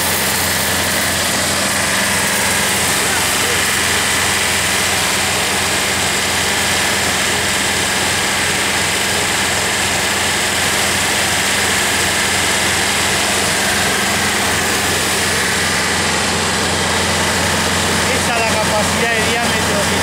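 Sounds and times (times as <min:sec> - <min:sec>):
high-pressure water jets hissing: 0:00.0 - 0:20.0
pump low hum: 0:00.0 - 0:20.0.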